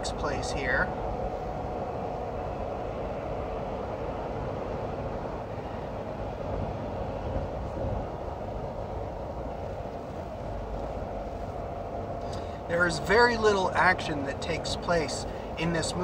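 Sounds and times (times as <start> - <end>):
car cabin road and engine rumble: 0.0 - 16.0
faint steady hum: 0.0 - 16.0.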